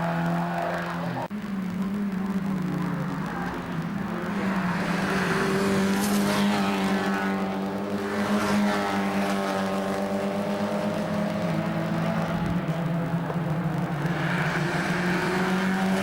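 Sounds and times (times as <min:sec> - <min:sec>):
race car engines running hard: 0:00.0 - 0:16.0.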